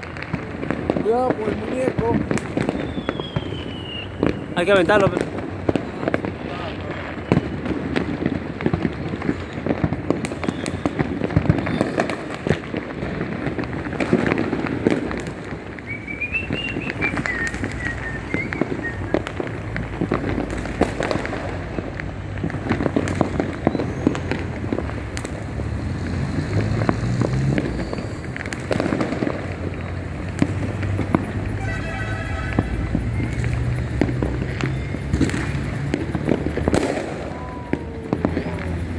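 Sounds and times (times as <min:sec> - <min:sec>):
fireworks bangs and crackling: 0:00.0 - 0:38.9
wavering firework whistle: 0:02.3 - 0:05.2, 0:08.7 - 0:12.1, 0:13.6 - 0:38.9.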